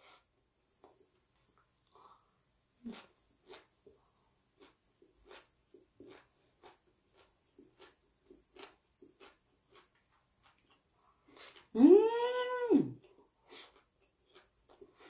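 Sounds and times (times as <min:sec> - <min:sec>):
faint chewing crunches: 0:01.5 - 0:11.8, 0:13.0 - 0:15.0.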